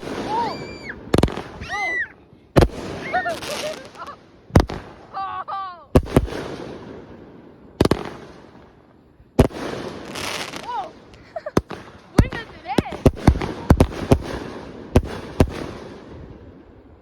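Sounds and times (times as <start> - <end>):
fireworks bangs with crackling hiss: 0.0 - 5.3, 5.9 - 17.0.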